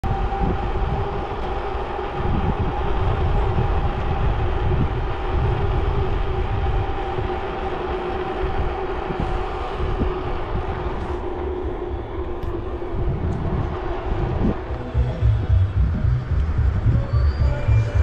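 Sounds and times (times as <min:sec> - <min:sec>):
steady whine from bicycle: 0:00.0 - 0:18.0
wind buffeting microphone: 0:00.0 - 0:18.0.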